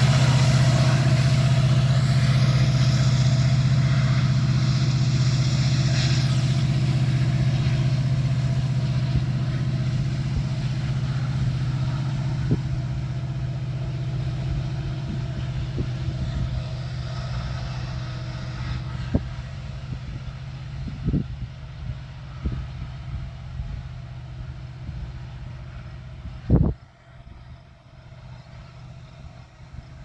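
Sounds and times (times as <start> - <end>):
locomotive engine drone: 0.0 - 30.0.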